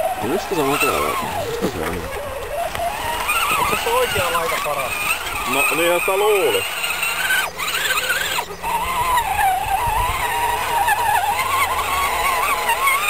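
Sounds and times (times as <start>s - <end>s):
toy truck electric motor whining: 0.0s - 13.0s.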